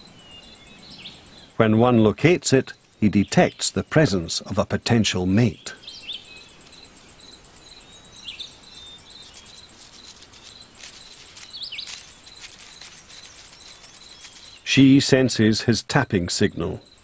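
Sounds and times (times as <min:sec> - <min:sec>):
bird chirps: 0:00.0 - 0:17.0
insect chirping: 0:00.0 - 0:17.0.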